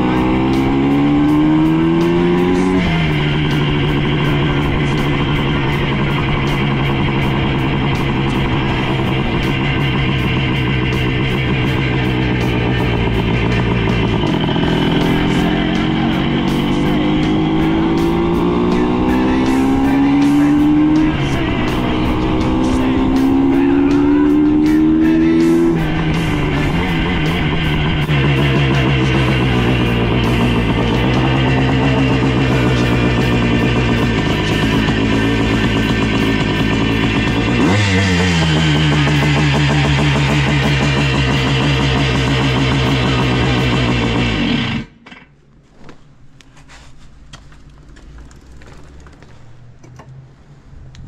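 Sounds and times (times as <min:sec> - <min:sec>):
two-stroke motorcycle engine running: 0:00.0 - 0:45.0, 0:47.4 - 0:49.4.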